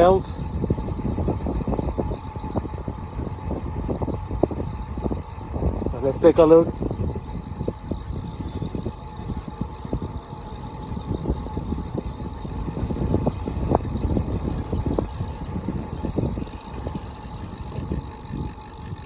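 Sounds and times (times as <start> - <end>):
bike road noise: 0.0 - 19.0
faint steady whine: 0.0 - 19.0
wind buffeting: 0.0 - 19.0.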